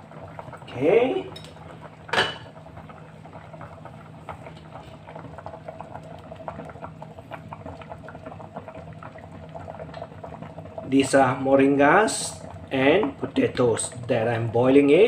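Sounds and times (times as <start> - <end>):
water boiling and bubbling: 0.0 - 15.0.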